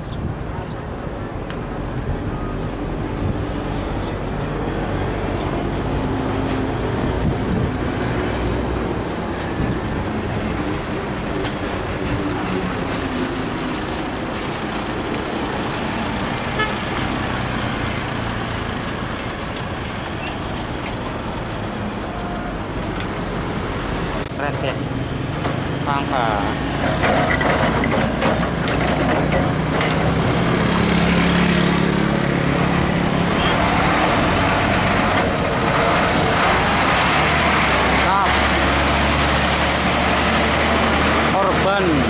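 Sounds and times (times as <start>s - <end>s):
road traffic: 0.0s - 42.0s
diesel truck driving past: 1.7s - 42.0s.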